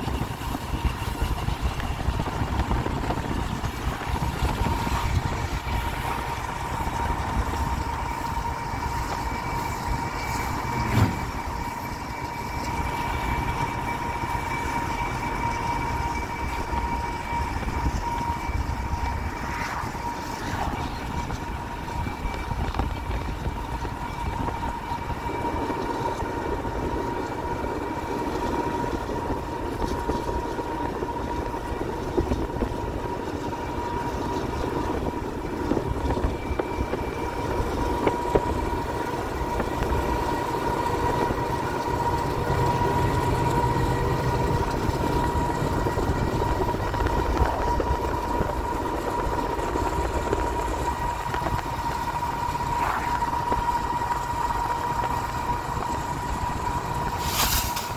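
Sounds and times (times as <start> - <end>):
diesel locomotive rumble: 0.0 - 57.9
high whine: 0.0 - 57.9
road and wind noise: 0.0 - 57.9.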